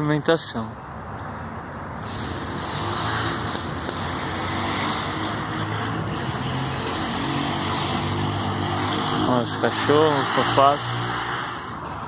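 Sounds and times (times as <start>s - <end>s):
distant engine rumble: 0.0s - 12.0s.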